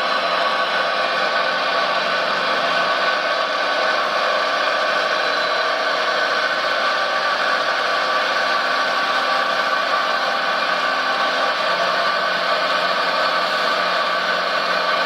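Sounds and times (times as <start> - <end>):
model vehicle mechanical whine: 0.0 - 15.0.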